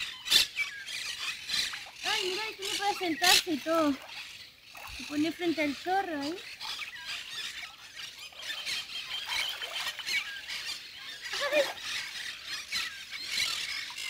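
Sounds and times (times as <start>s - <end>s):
birds chirping and squeaking: 0.0s - 14.0s.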